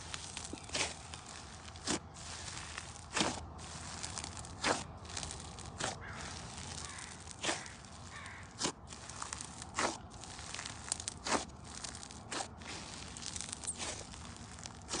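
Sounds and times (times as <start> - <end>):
slime crackling: 0.0 - 15.0.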